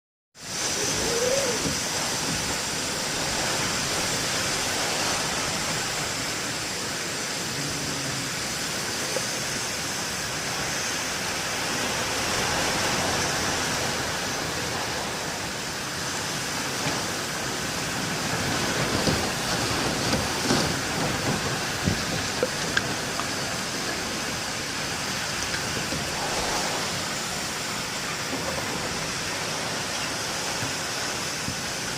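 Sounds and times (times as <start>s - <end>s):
heavy rain in wind: 0.4s - 31.9s.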